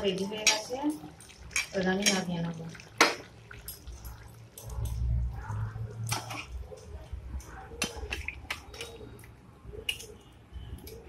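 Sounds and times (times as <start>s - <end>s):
wet gravy squelches: 0.0s - 11.0s.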